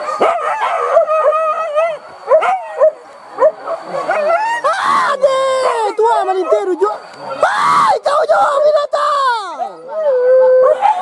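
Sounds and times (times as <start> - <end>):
dogs yelping and barking: 0.0 - 7.6, 9.4 - 11.0.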